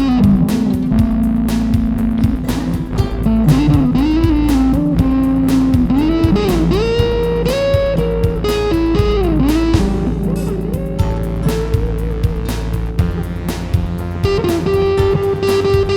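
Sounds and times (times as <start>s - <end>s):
bass guitar: 0.0s - 15.9s
drums: 0.0s - 15.9s
electric guitar lead with bends: 0.0s - 15.9s.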